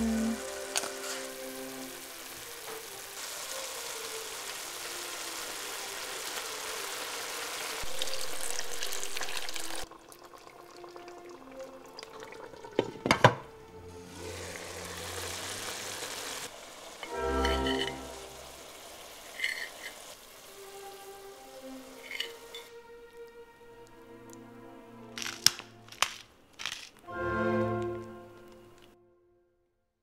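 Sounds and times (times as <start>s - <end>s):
broth simmering and sizzling: 0.0s - 29.0s.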